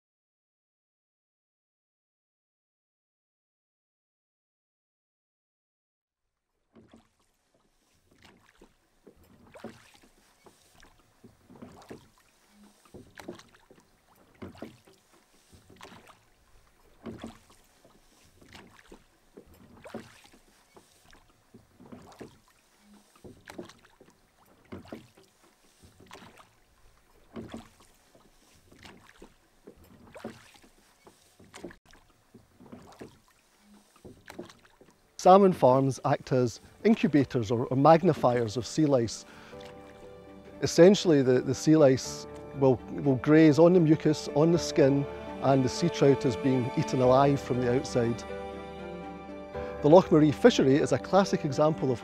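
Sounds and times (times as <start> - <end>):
oars pulling through water: 6.5 - 52.0.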